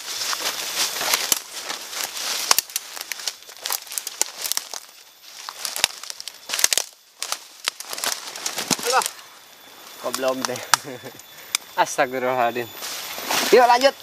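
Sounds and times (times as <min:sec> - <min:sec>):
leaves rustling and crackling: 0:00.0 - 0:11.1, 0:12.7 - 0:14.0.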